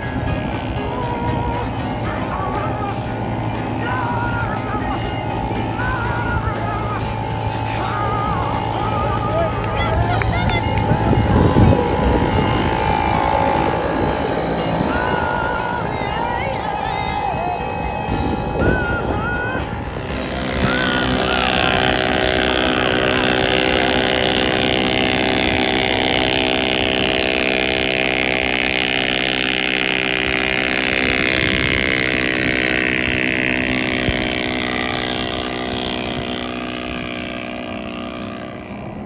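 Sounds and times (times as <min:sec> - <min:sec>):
two-stroke outboard motor running: 0:00.0 - 0:39.0.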